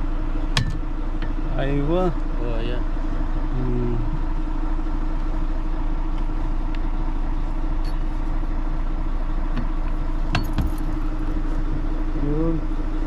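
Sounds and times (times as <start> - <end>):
truck engine humming: 0.0 - 13.0.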